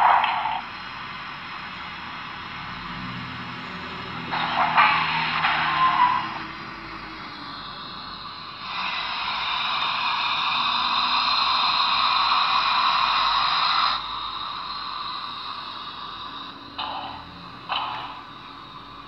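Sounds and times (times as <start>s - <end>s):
model locomotive steam hiss: 0.0s - 19.0s.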